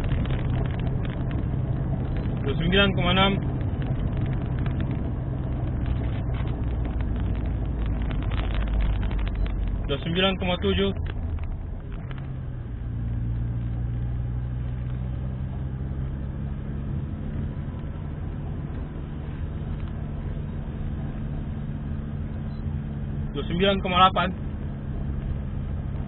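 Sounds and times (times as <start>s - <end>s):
car engine running: 0.0s - 26.0s
tyre and road noise: 0.0s - 26.0s.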